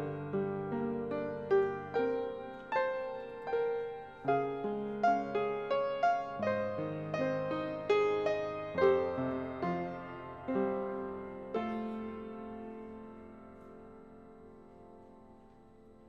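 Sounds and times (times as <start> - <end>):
slow gentle solo piano: 0.0 - 16.0.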